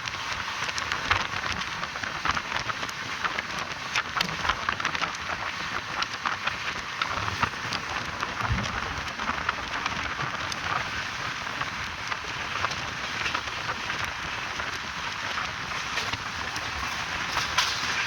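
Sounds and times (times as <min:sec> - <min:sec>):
train clicks and rattles: 0:00.0 - 0:18.0.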